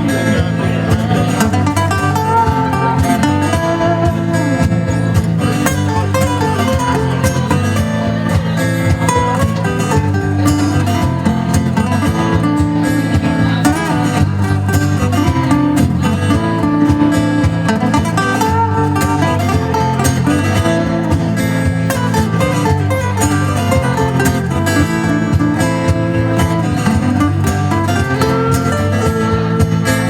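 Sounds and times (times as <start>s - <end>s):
electric guitar: 0.0s - 30.0s
live band playing: 0.0s - 30.0s.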